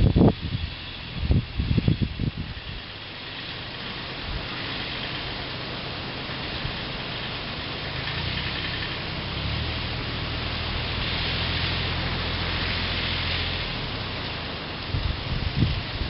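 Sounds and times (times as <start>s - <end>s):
diesel tractor engine running: 0.0s - 16.0s
steady hiss: 0.0s - 16.0s.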